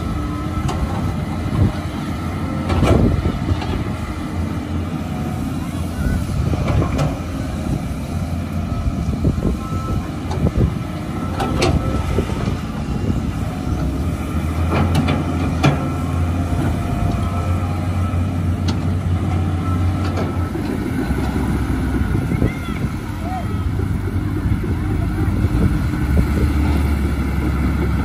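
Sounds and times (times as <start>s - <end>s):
excavator diesel engine: 0.0s - 28.0s.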